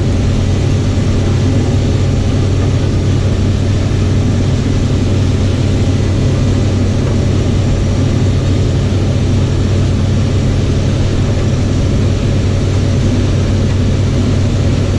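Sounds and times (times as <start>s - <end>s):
combine harvester engine drone: 0.0s - 14.9s.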